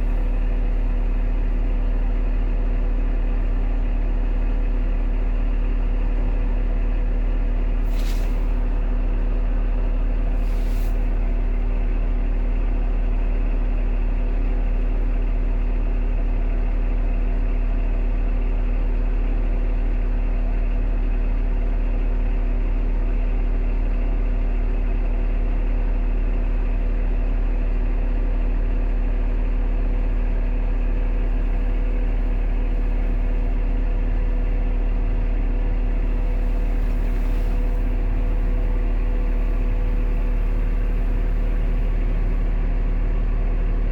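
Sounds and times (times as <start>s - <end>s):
engine idling: 0.0s - 20.4s, 24.7s - 43.9s.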